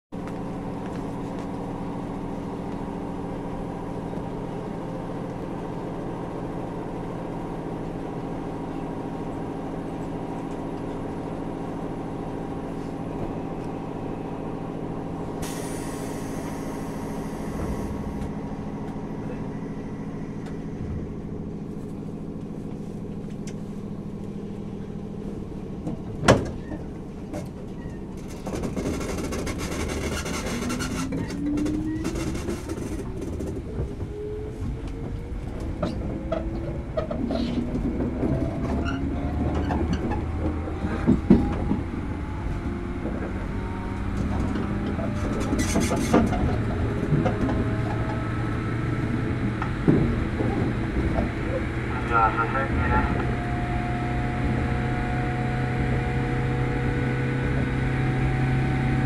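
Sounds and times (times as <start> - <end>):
train rumble starting to move: 0.1 - 59.0
train equipment humming: 0.2 - 59.0.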